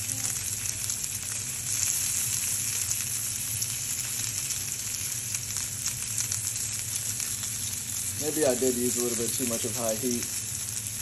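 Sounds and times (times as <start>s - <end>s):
fish searing in frying pan: 0.0s - 11.0s.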